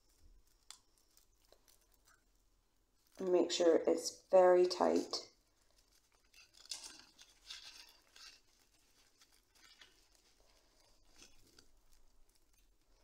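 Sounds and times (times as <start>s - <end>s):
rustling leaves and stems: 0.0s - 13.0s.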